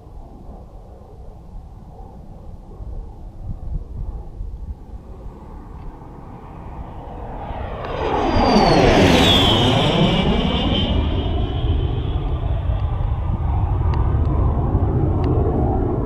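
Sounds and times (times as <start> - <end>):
jet engine rumble and whine: 0.0 - 16.0.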